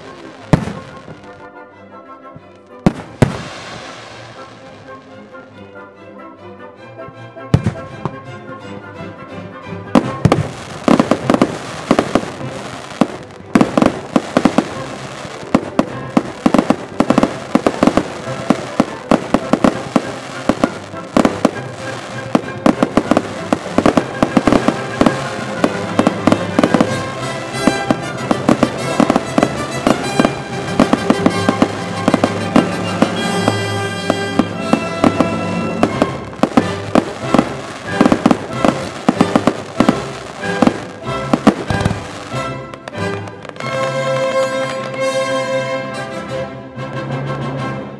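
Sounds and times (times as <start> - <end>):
fireworks bangs and crackling: 0.0 - 1.4, 2.8 - 5.0, 7.5 - 7.9, 10.0 - 45.3
music: 0.0 - 47.9.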